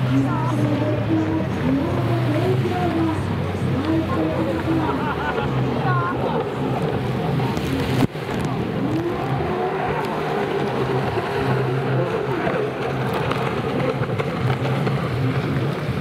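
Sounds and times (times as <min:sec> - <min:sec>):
jet ski engines racing: 0:00.0 - 0:16.0.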